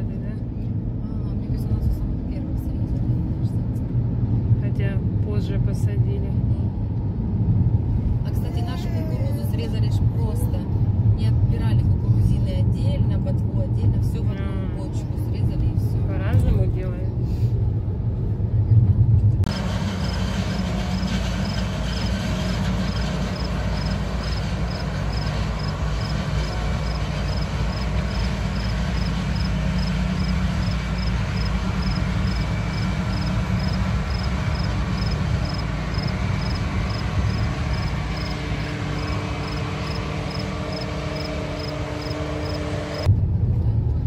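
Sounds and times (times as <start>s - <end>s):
harvester machine drone: 0.0s - 44.0s.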